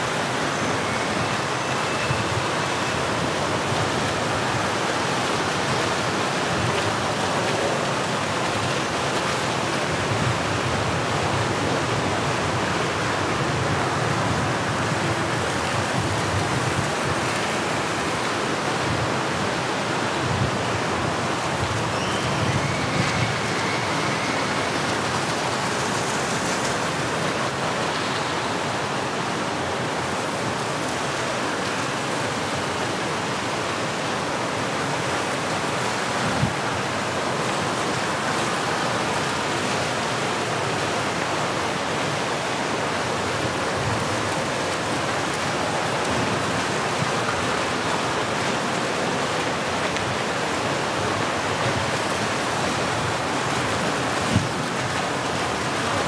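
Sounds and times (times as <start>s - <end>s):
rushing water hiss: 0.0s - 56.0s.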